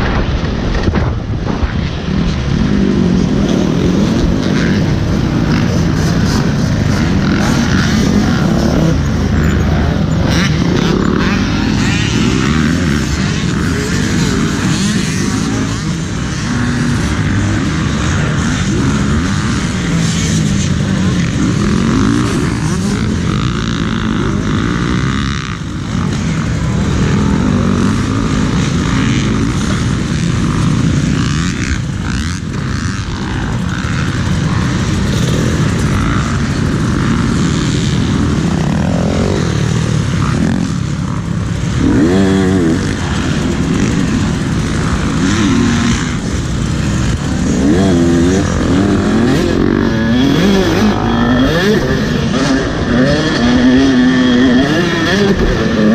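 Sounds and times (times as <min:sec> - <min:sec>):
dirt bike engine revving: 0:01.9 - 0:55.9.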